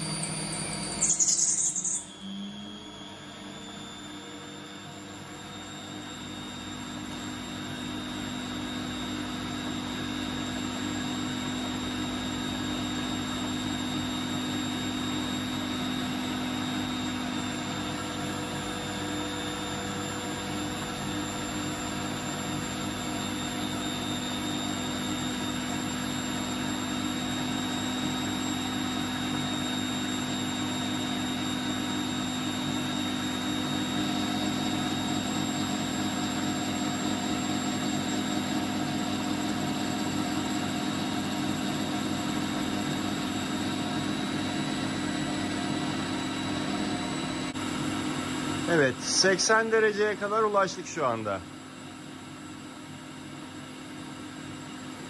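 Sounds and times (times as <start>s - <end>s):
electric motor humming and whining: 0.0s - 51.3s.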